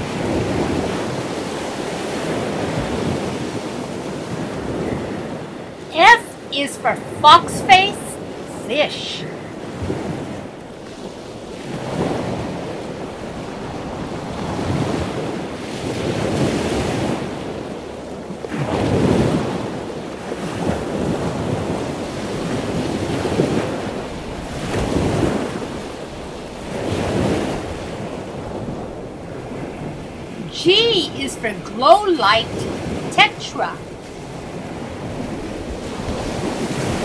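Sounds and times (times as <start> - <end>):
rushing water: 0.0 - 37.0.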